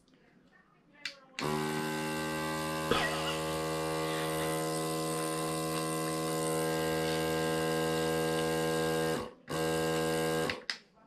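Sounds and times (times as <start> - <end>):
airbrush compressor humming: 1.4 - 10.6.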